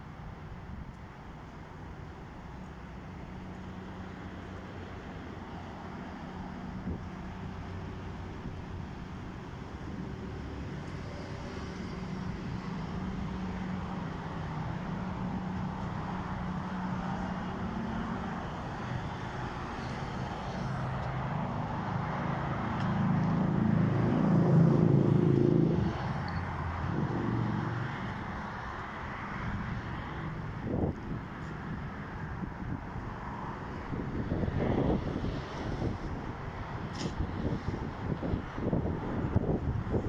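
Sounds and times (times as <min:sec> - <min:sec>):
vehicle engine humming: 0:00.1 - 0:40.0.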